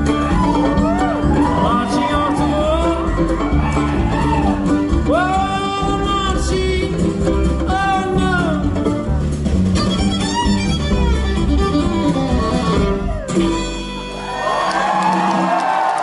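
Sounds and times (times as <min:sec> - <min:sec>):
acoustic guitar: 0:00.0 - 0:14.4
upright bass: 0:00.0 - 0:14.6
drums: 0:00.0 - 0:16.0.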